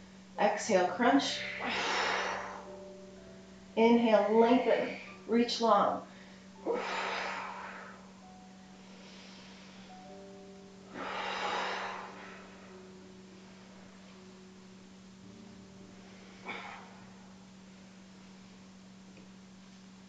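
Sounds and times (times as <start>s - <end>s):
soft background music: 0.0s - 20.0s
steady low hum: 0.0s - 20.0s.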